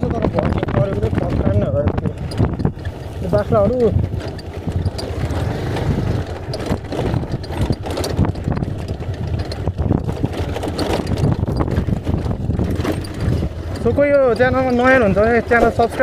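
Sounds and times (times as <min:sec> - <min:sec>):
fairing rattling: 0:00.0 - 0:16.0
motorcycle engine running: 0:00.0 - 0:16.0.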